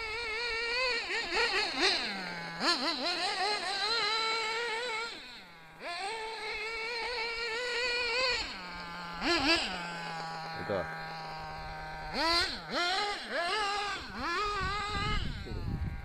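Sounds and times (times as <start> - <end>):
model car engine buzzing: 0.0 - 16.0.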